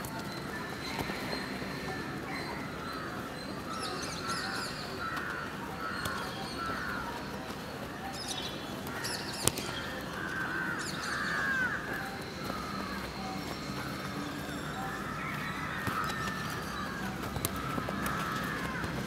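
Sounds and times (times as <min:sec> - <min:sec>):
birds calling harshly: 0:00.2 - 0:19.0.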